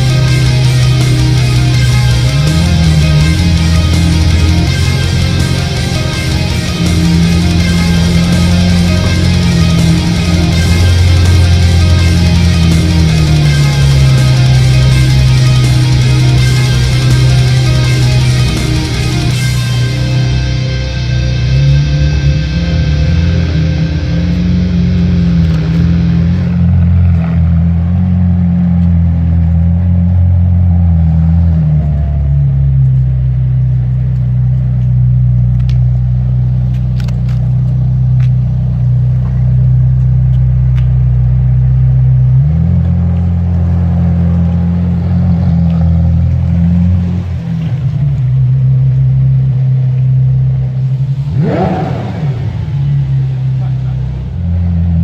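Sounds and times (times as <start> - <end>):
engine rev blip: 0.0 - 29.5, 36.6 - 55.0
car engine idling: 0.0 - 55.0.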